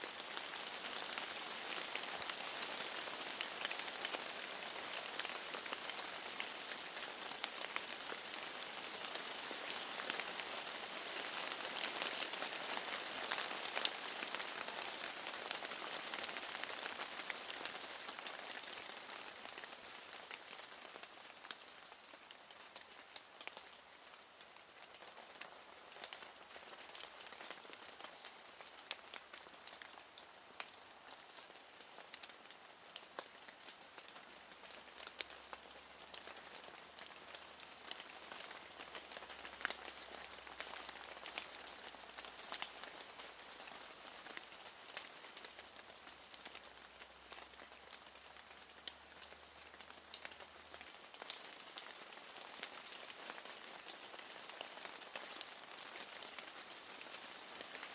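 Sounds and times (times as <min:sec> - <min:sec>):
rain falling against a window: 0:00.0 - 0:57.9.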